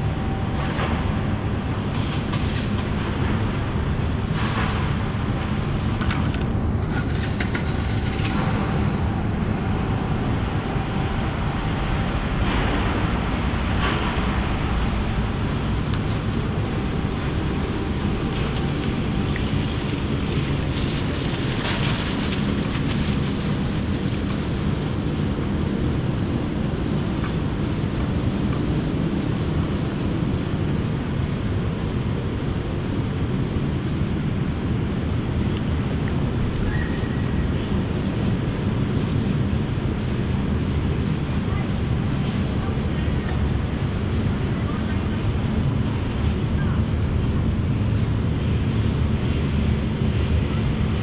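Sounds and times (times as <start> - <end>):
distant traffic rumble: 0.0 - 51.0.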